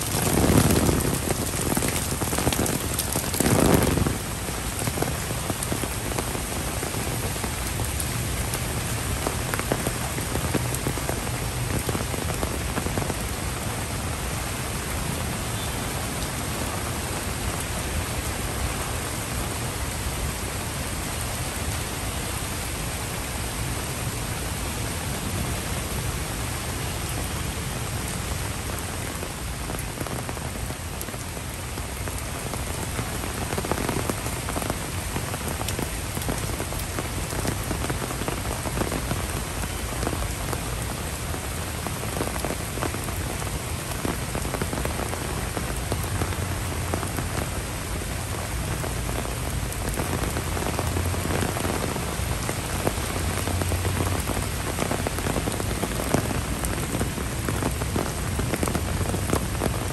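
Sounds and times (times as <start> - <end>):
heavy rain on foliage and pond: 0.0 - 59.9.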